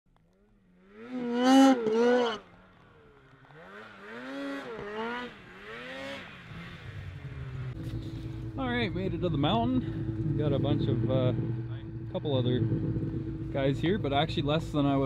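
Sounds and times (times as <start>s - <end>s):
snowmobile engine revving: 0.3s - 15.0s.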